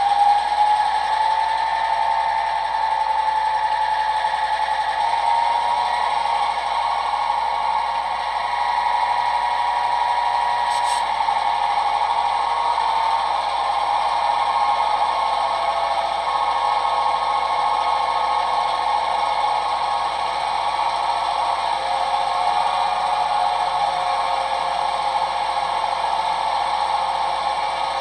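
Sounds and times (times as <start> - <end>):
model locomotive diesel idle sound: 0.0 - 28.0.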